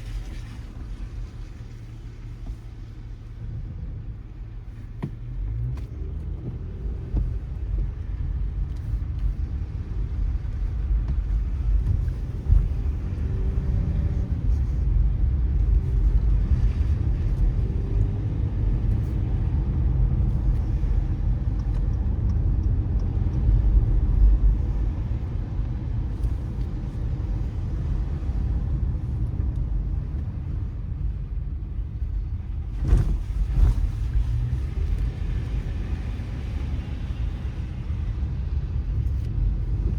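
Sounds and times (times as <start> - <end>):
car and tyres rumbling: 0.0 - 39.9.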